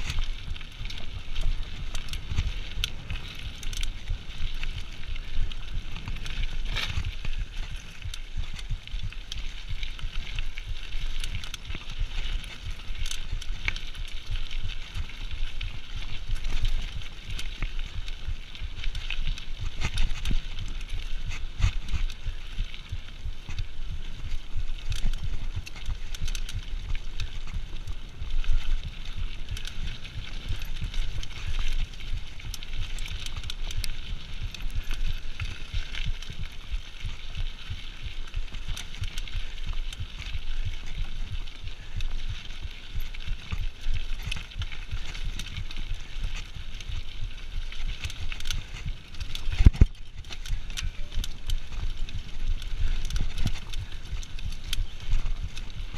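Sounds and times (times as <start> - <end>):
bike frame and chain rattling: 0.0 - 55.9
tyres crunching over dirt: 0.0 - 55.9.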